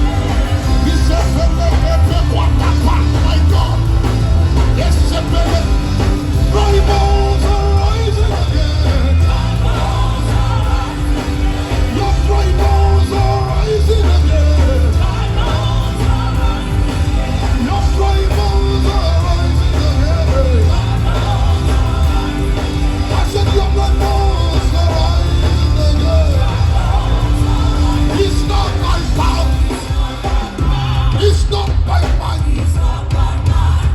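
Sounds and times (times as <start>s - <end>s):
gospel band with heavy bass: 0.0s - 33.9s
person singing: 0.0s - 33.9s.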